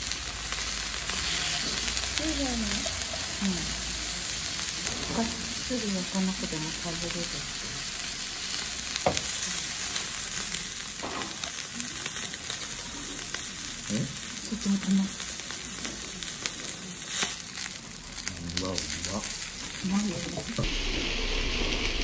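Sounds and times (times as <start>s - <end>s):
meat sizzling on a griddle: 0.0s - 22.0s.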